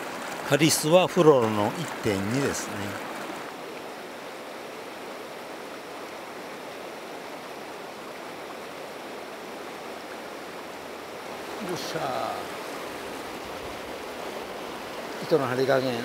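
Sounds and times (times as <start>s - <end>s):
river rapids rushing over boulders: 0.0s - 16.0s.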